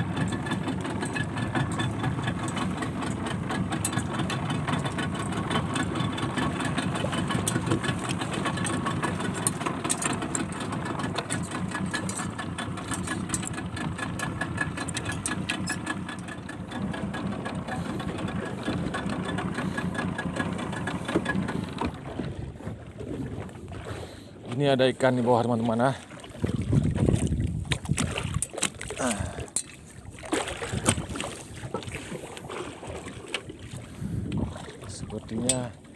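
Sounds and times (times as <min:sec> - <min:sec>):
small boat engine running: 0:00.0 - 0:35.9.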